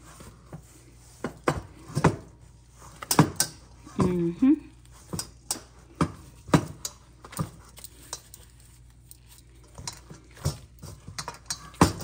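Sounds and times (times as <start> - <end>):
dough slapping in metal bowl: 0.0 - 8.4, 9.7 - 12.0.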